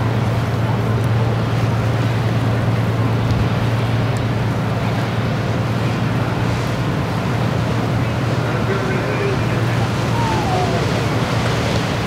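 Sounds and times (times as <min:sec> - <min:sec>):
motor boat engine humming: 0:00.0 - 0:12.0
water wash: 0:00.0 - 0:12.0.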